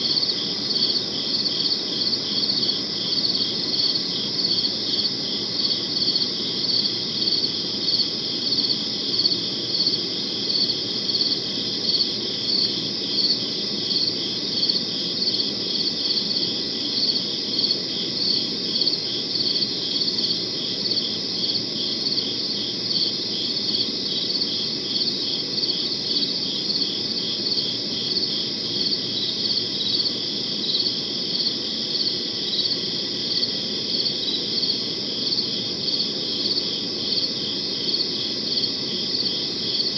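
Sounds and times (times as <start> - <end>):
crickets chirping: 0.0 - 39.9
low steady background noise: 0.0 - 39.9.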